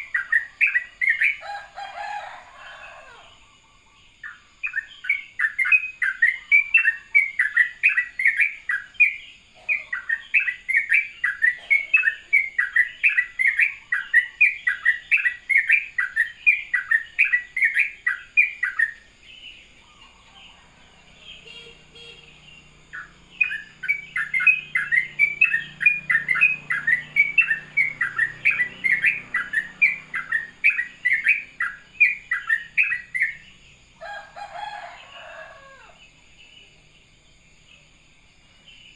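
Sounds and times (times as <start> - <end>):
bird chattering song: 0.0 - 1.5, 3.4 - 33.7.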